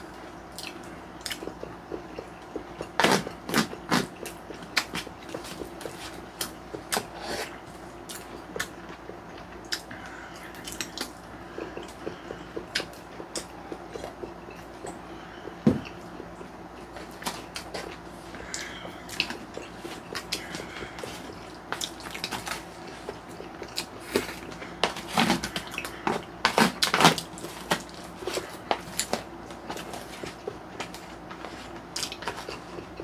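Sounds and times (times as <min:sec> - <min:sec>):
faint steady hum: 0:00.0 - 0:33.0
chewing and mouth noises: 0:00.1 - 0:33.0.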